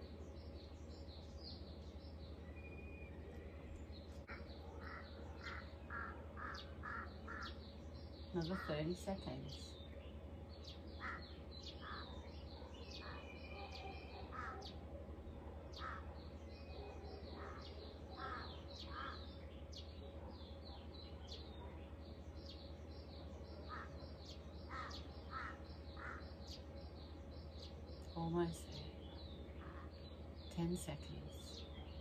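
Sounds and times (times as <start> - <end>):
birds calling and chirping: 0.0 - 32.0
low steady hum: 0.0 - 32.0.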